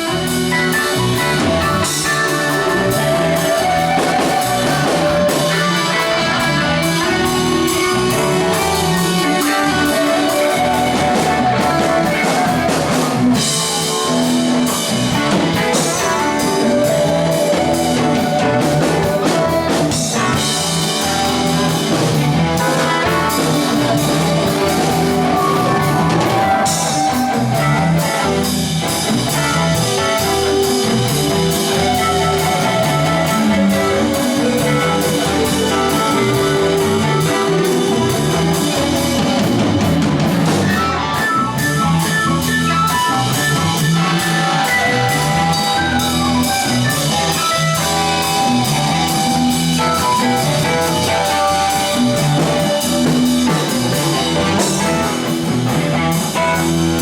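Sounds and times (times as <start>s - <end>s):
bass guitar: 0.0s - 57.0s
drum kit beat: 0.0s - 57.0s
electric guitar: 0.0s - 57.0s
keyboard: 0.0s - 57.0s.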